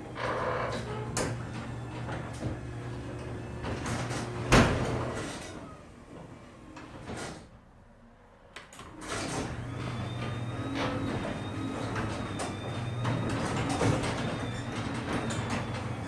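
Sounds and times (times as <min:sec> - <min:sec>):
garage door humming: 0:00.0 - 0:07.4, 0:08.7 - 0:16.0.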